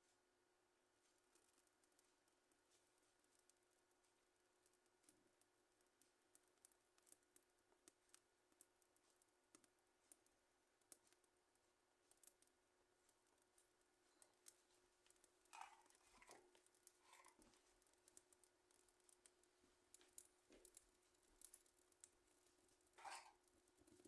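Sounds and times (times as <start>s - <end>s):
wood fire crackling: 0.9s - 24.0s.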